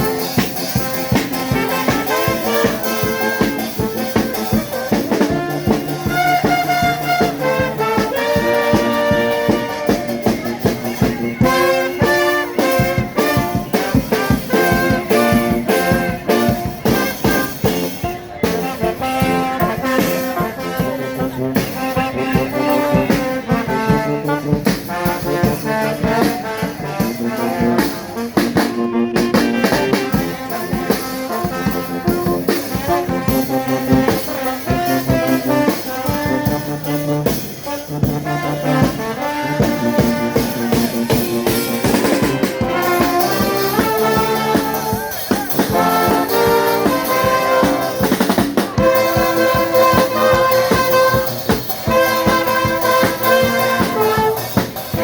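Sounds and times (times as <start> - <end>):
steady drum beat: 0.0 - 55.0
trumpets and trombones: 0.0 - 55.0.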